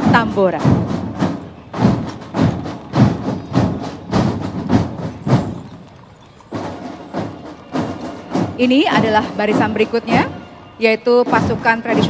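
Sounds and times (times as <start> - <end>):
marching drums beating: 0.0 - 12.0.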